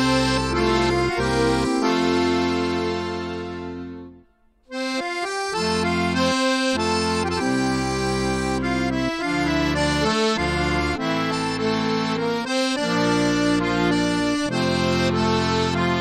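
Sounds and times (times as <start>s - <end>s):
lively accordion music: 0.0s - 16.0s.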